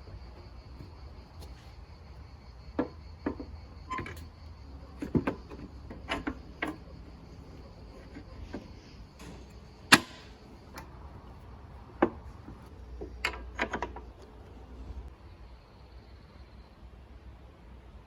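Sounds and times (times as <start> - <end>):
hard parts knocking and clicking: 0.0 - 15.1
faint high-pitched hum: 0.0 - 18.0.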